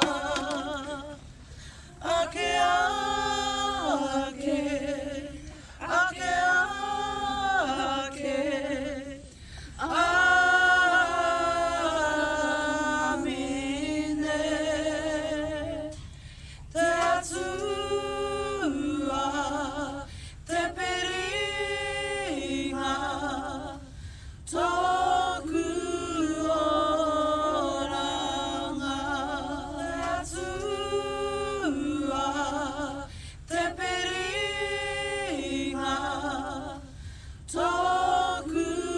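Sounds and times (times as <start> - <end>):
group singing unaccompanied: 0.0 - 16.0, 16.7 - 38.9.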